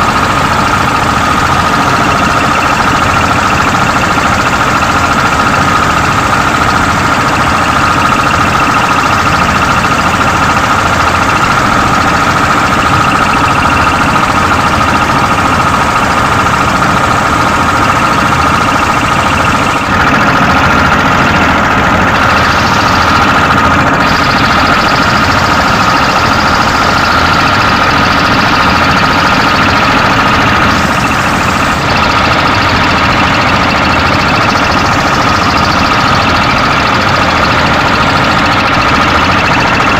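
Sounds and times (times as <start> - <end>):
boat engine running: 0.0 - 39.9
high whine: 0.0 - 39.9.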